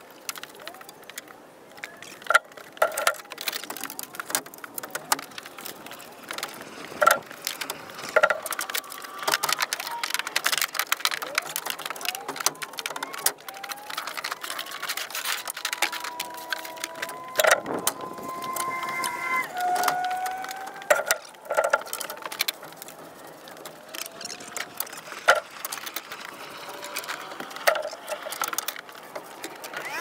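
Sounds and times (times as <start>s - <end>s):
wooden boards knocking and clattering: 2.0s - 26.3s.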